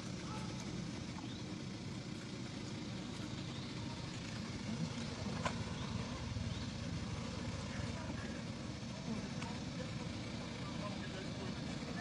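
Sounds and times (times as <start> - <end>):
engine idling rumble: 0.0 - 12.0.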